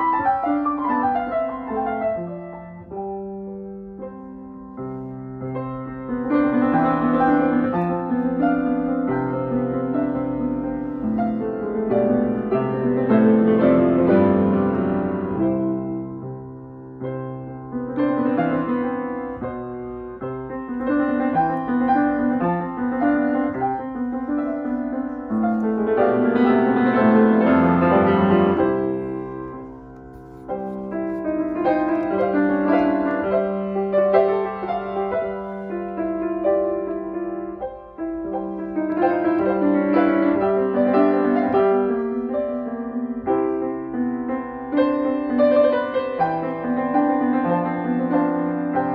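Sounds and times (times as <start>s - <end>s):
grand piano playing: 0.0s - 48.9s.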